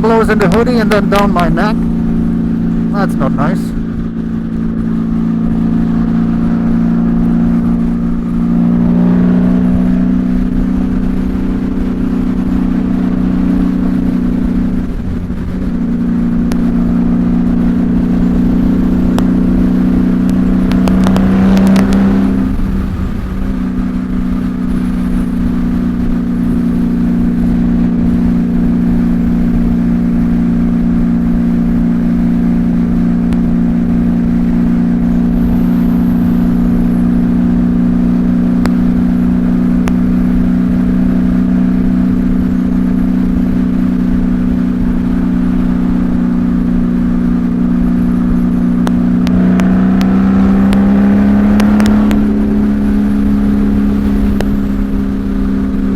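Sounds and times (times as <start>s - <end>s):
motorcycle engine cruising: 0.0s - 55.9s
wind rush: 0.0s - 55.9s.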